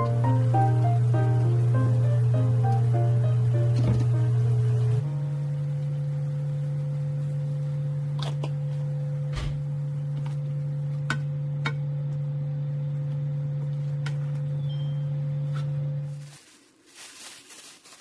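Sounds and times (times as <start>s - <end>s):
low hum: 0.0s - 16.2s.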